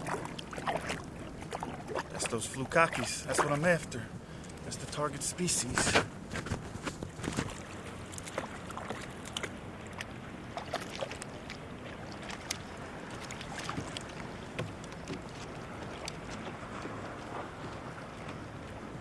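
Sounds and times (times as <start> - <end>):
water lapping against kayak hull: 0.0 - 19.0.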